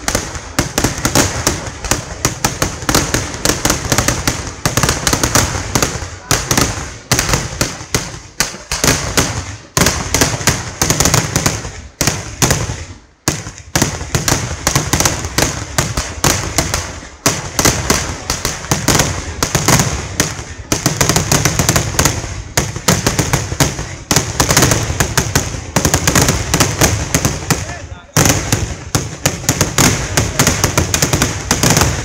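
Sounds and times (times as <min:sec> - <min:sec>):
fireworks bangs barrage: 0:00.0 - 0:32.0.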